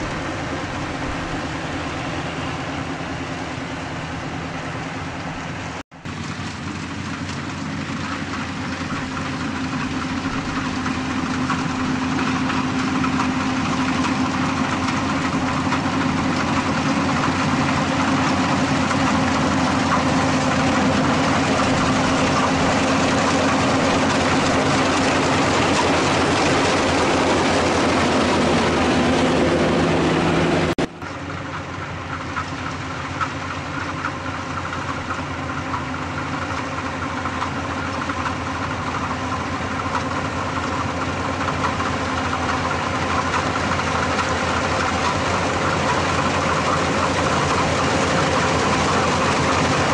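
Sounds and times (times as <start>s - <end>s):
combine harvester drone: 0.0s - 49.9s.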